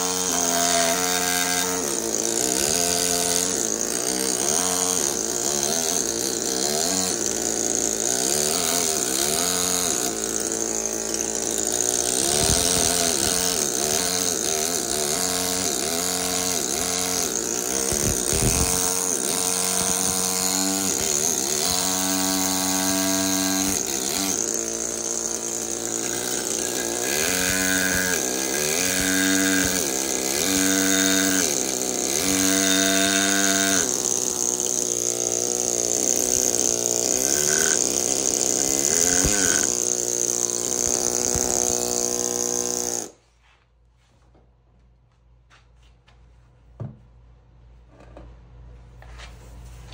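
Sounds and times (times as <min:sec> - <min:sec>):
pneumatic hammer chisel chatter: 0:00.0 - 0:43.2.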